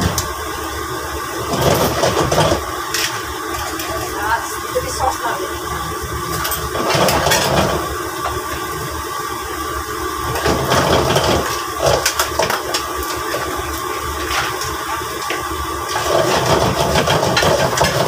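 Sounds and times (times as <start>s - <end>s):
gas stove roar: 0.0s - 18.0s.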